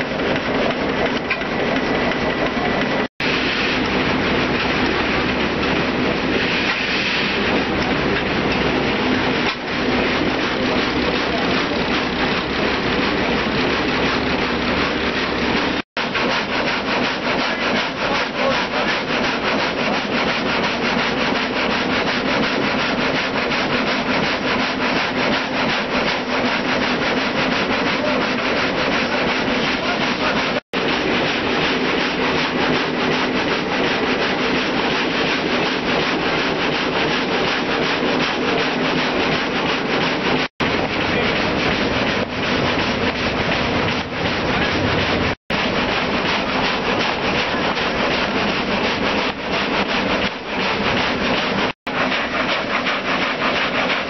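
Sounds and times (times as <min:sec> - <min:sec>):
machine hum: 0:00.0 - 0:54.0
saw rasping through timber: 0:03.7 - 0:54.0.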